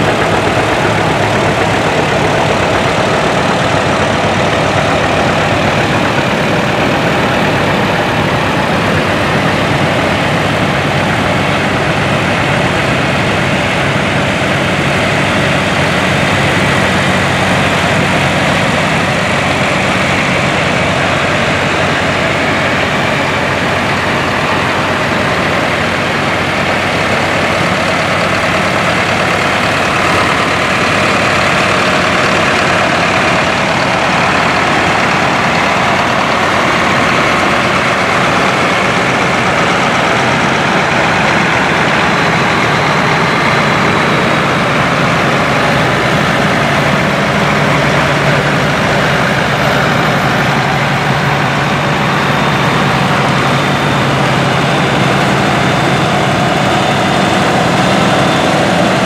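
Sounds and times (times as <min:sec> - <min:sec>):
tractor engines running: 0:00.0 - 0:59.0.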